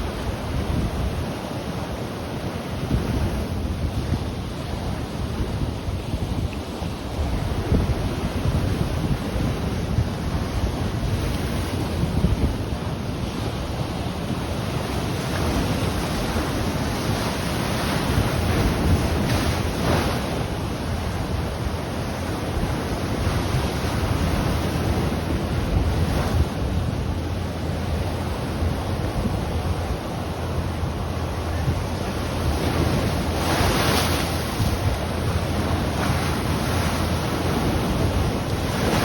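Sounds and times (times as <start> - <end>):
ocean waves breaking: 0.0 - 39.0
wind buffeting microphone: 0.0 - 39.0.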